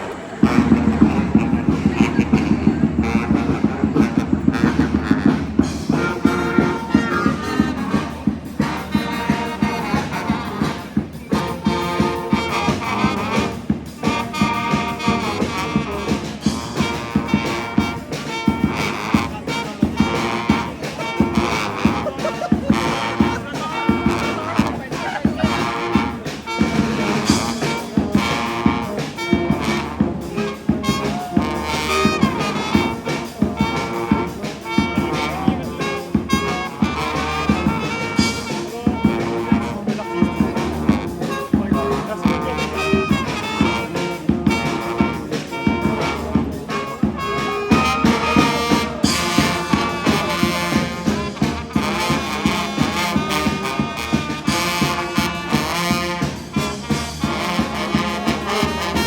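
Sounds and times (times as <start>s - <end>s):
jazz brass music: 0.0s - 59.0s.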